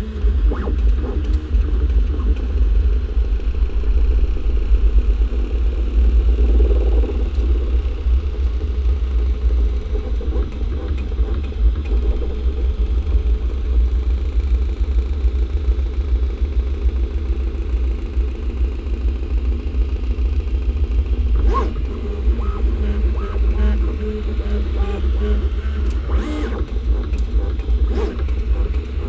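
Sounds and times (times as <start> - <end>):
steady low hum: 0.0 - 29.0
stepper motors buzzing and whirring: 0.0 - 29.0.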